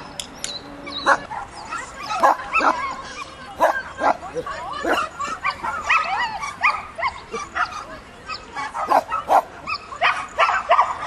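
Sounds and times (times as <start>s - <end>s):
dogs barking: 0.9s - 11.0s.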